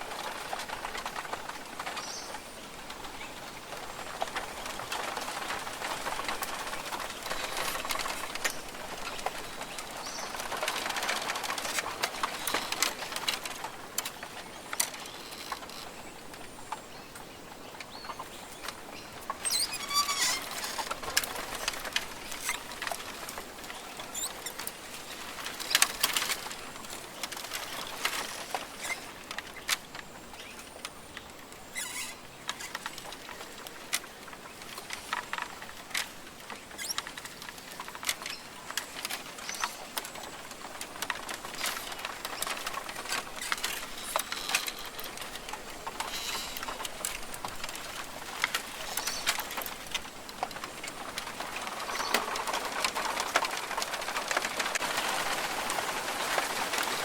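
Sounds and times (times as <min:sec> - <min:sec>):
clicks ticks and rustles: 0:00.0 - 0:57.0.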